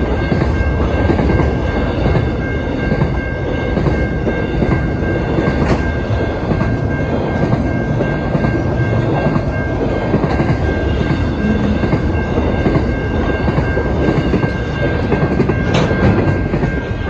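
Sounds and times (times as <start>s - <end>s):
train wheels rumbling and clattering: 0.0s - 17.0s.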